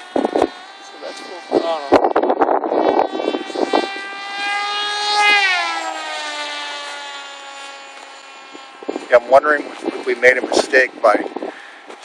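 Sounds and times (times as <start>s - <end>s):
model plane motor whine: 0.0s - 12.0s.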